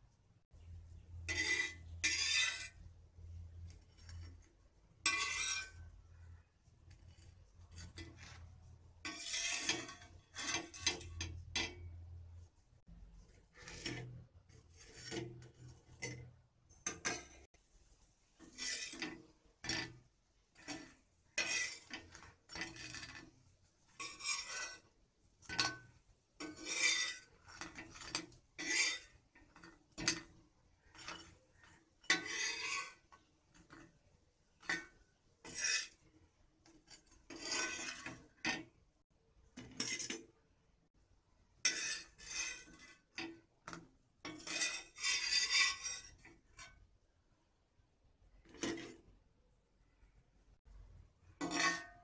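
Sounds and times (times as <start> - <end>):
steel spatula scraping griddle: 0.6 - 38.8, 39.6 - 40.4, 41.6 - 46.9, 48.3 - 49.1, 51.3 - 52.0.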